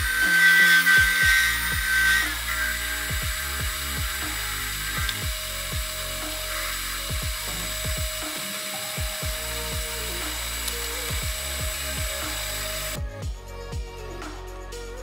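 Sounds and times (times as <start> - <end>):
metal lathe whine and hiss: 0.0 - 13.0
electronic music with kick drum: 0.0 - 15.0.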